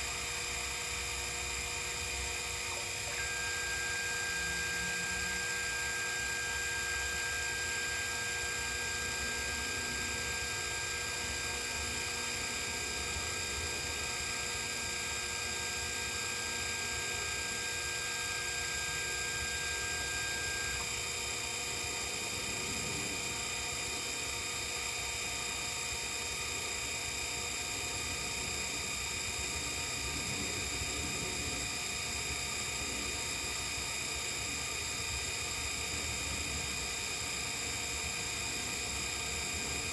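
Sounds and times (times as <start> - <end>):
milling machine whirring and whining: 0.0 - 39.9.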